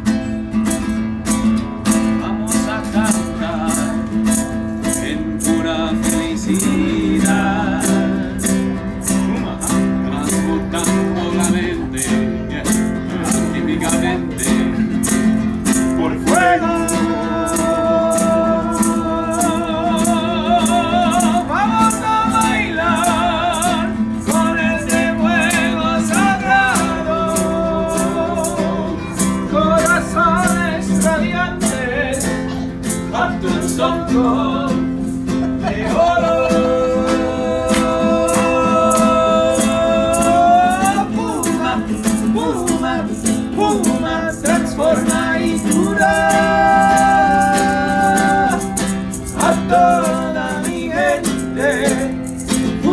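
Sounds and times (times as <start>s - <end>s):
maraca shaken: 0.0s - 52.9s
strummed acoustic guitar: 0.0s - 52.9s
men singing together: 2.1s - 52.9s.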